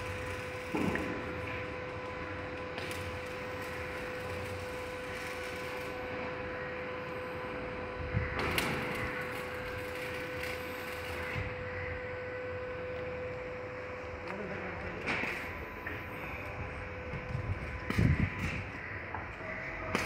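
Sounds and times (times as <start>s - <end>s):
machinery hum with pitched tone: 0.0s - 20.0s.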